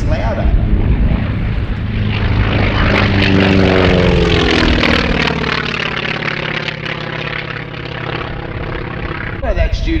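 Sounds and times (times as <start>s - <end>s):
propeller aircraft flying past: 0.0s - 10.0s.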